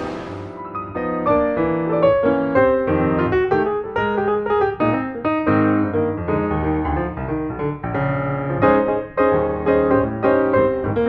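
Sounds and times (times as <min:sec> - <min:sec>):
lively piano music: 0:00.0 - 0:11.0.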